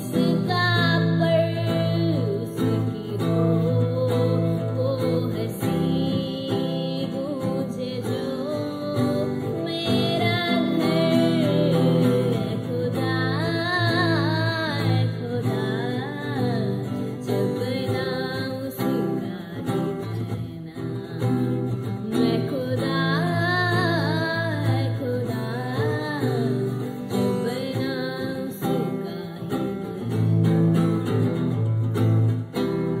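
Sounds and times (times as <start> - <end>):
acoustic guitar strumming: 0.0 - 33.0
woman singing: 0.0 - 33.0.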